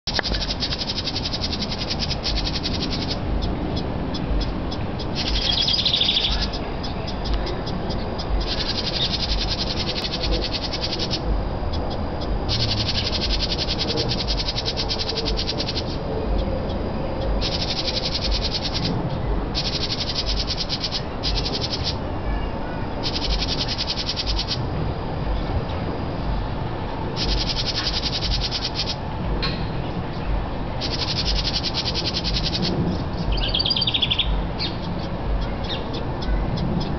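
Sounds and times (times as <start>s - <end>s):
wrens chattering alarm calls: 0.1s - 24.7s, 27.1s - 29.1s, 30.1s - 36.9s.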